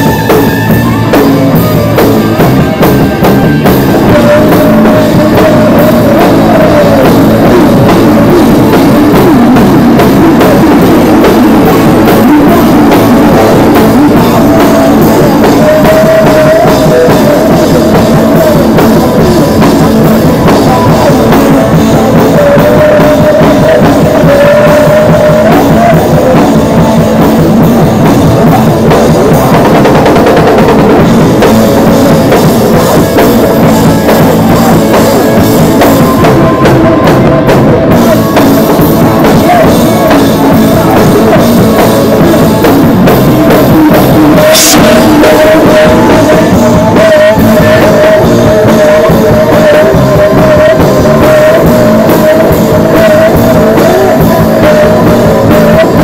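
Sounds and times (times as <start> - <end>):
drum kit: 0.0 - 56.0
electric guitar: 0.0 - 56.0
person singing: 0.0 - 56.0.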